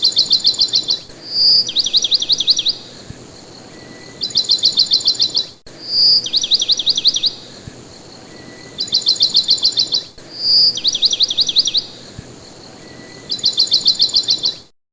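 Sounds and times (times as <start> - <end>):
cage bird singing trills: 0.0 - 14.7.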